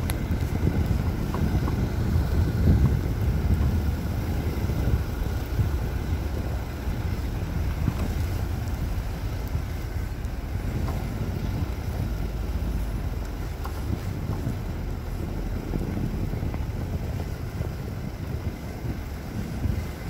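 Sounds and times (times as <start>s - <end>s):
car engine rumbling: 0.0s - 20.0s
wind buffeting microphone: 0.0s - 20.0s.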